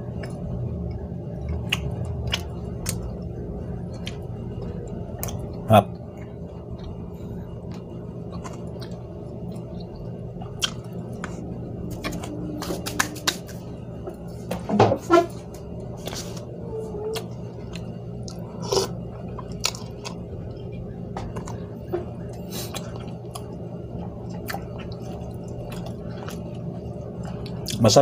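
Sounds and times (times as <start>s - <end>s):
person chewing noodles: 0.0s - 13.7s, 15.9s - 27.8s
steady low hum: 0.0s - 28.0s.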